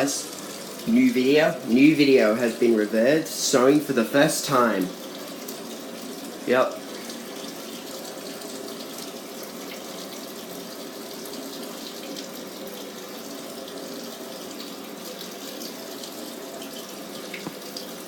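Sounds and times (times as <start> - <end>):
water rushing into washing machine: 0.0 - 18.0.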